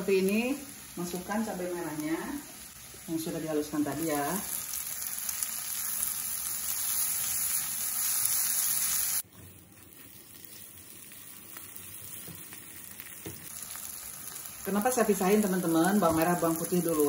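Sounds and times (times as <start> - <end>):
chili paste sizzling in oil: 0.0 - 17.0.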